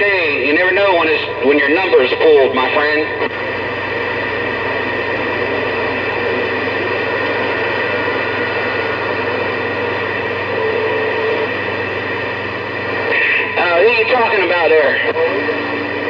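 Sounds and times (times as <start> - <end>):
low hum: 0.0 - 16.0
radio static hiss: 0.0 - 16.0.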